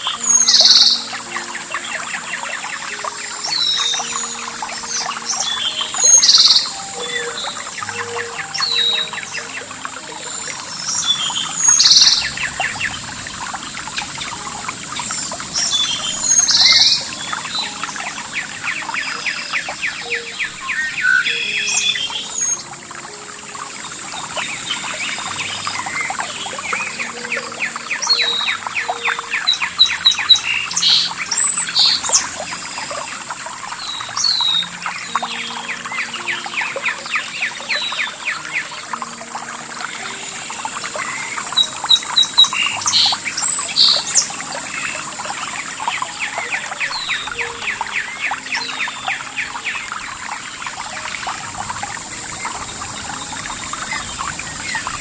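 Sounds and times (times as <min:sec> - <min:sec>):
running water trickling: 0:00.0 - 0:55.0
songbirds singing and chirping: 0:00.0 - 0:55.0.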